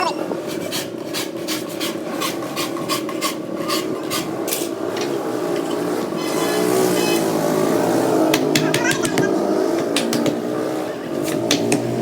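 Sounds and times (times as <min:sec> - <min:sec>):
rasp filing wood: 0:00.3 - 0:12.0.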